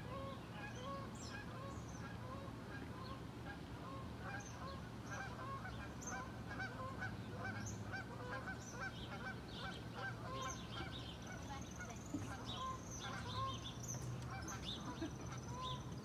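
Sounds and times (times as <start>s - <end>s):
geese honking: 0.0s - 15.9s.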